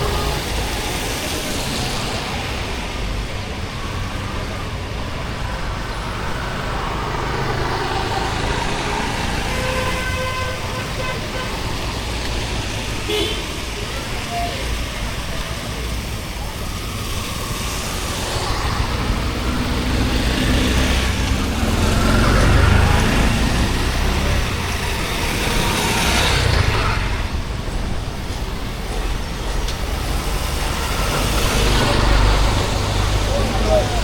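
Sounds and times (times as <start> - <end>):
vehicles passing on wet road: 0.0 - 34.0.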